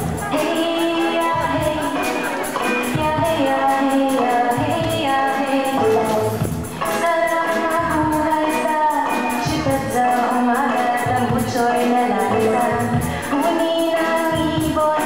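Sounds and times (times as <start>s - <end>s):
live band playing: 0.0s - 15.0s
tambourine shaken and struck: 0.0s - 15.0s
woman singing into microphone: 0.0s - 15.0s.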